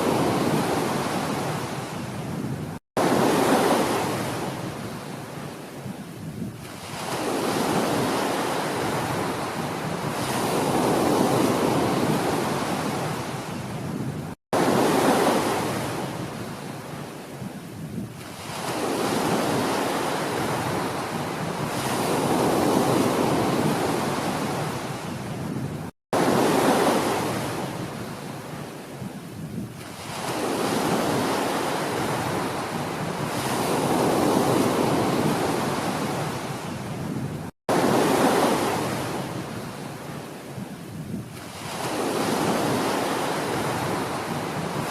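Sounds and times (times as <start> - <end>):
ocean waves washing ashore: 0.0 - 44.9.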